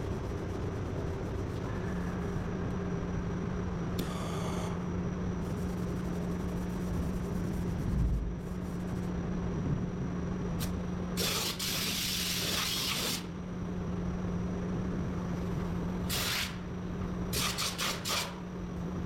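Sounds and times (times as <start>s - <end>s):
low shop hum: 0.0s - 19.0s.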